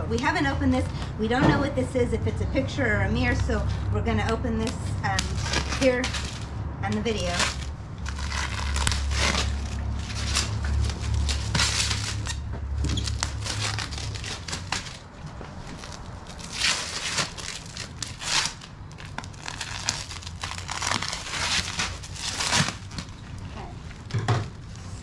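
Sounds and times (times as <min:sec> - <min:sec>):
packing wrap tearing and crumpling: 0:04.6 - 0:24.9.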